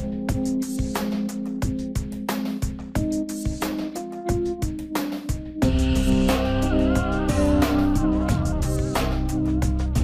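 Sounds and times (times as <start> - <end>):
music with plucked notes: 0.0 - 10.0.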